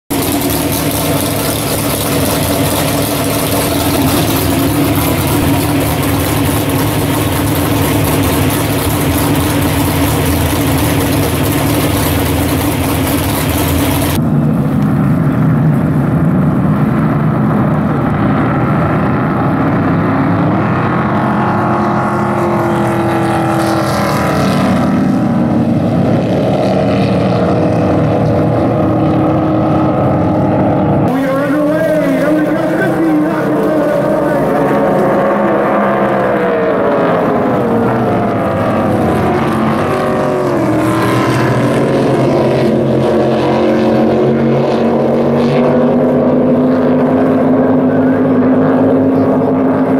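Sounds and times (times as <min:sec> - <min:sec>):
race boat engine running loud: 0:00.0 - 0:49.9
race boats passing: 0:00.1 - 0:49.9.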